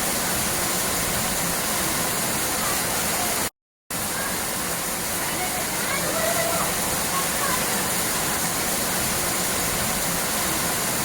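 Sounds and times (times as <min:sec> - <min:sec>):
steady rushing water: 0:00.0 - 0:11.0.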